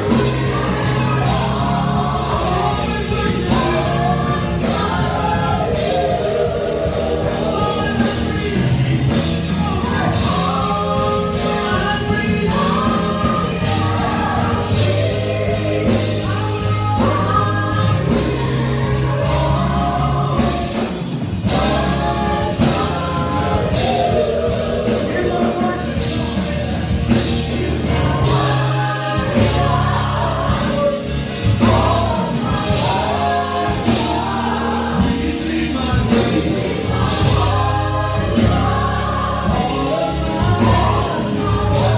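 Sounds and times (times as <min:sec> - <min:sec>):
band with bass and drums: 0:00.0 - 0:41.9
choir singing: 0:00.0 - 0:41.9.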